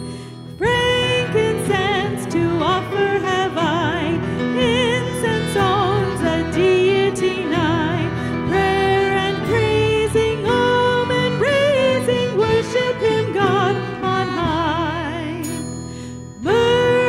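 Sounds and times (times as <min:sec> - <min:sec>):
acoustic guitar: 0:00.0 - 0:17.0
electric bass: 0:00.0 - 0:17.0
piano: 0:00.0 - 0:17.0
woman singing: 0:00.5 - 0:15.6, 0:16.4 - 0:17.0.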